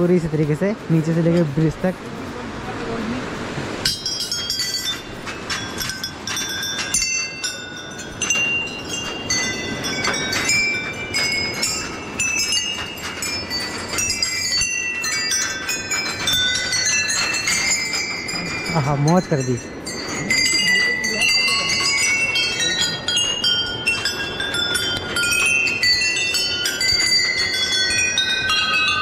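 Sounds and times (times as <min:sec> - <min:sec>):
small temple bells ringing: 0:03.8 - 0:29.0.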